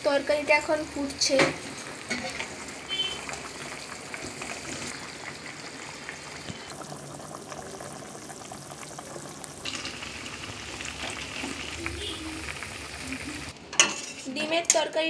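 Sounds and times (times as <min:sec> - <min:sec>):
curry bubbling and popping: 0:01.0 - 0:13.6.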